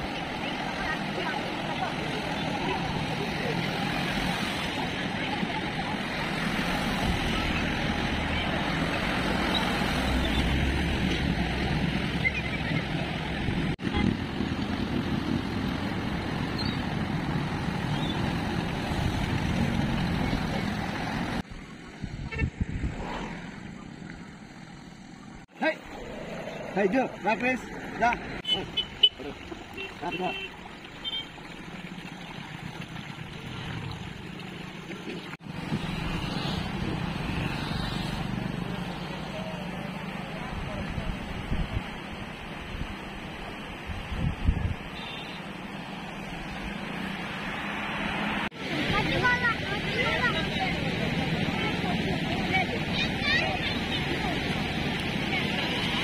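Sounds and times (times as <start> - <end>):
motorcycle and car engines: 0.0 - 56.0
water rushing and splashing: 0.0 - 56.0.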